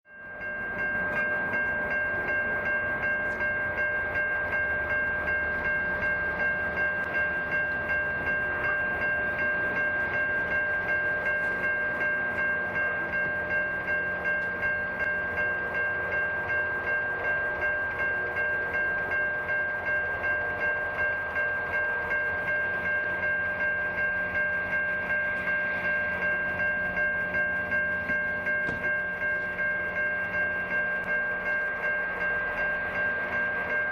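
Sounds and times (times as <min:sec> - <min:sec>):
level crossing warning bell: 0:00.1 - 0:33.9.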